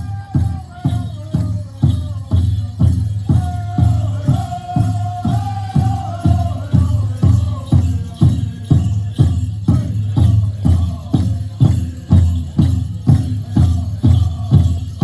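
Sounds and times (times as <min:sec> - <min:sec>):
bells jingling: 0:00.0 - 0:15.0
big drum beating steadily: 0:00.0 - 0:15.0.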